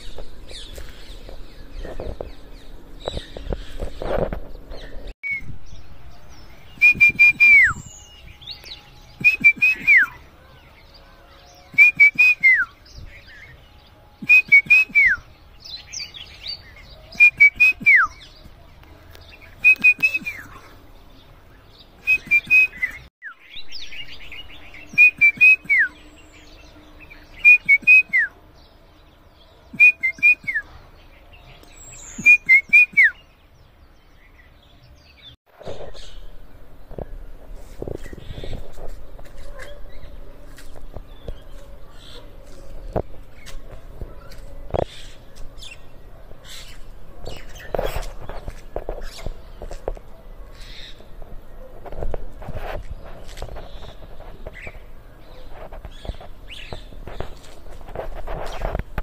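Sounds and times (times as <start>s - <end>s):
bird singing: 0.0s - 51.7s.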